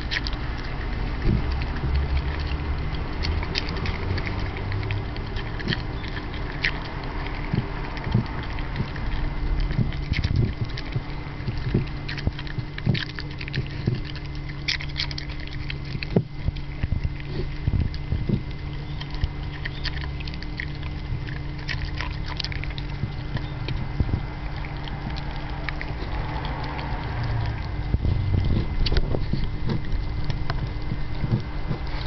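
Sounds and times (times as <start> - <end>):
dog chewing and licking: 0.0 - 32.0
low hum: 0.0 - 32.0
teeth clicking against bowl: 0.0 - 32.0.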